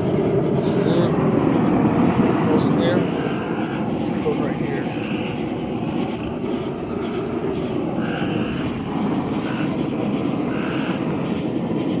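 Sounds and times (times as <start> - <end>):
burner flame rushing: 0.0 - 12.0.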